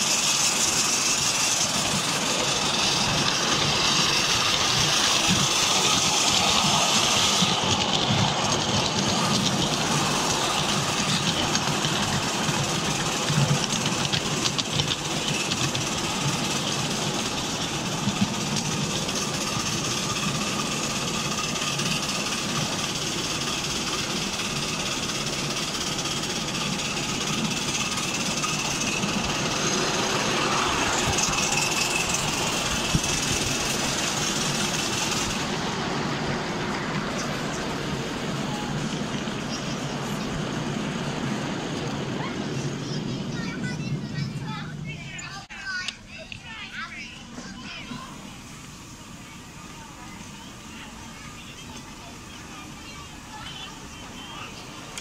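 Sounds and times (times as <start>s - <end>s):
miniature train running: 0.0s - 55.0s
wheels clicking on rails: 0.0s - 55.0s.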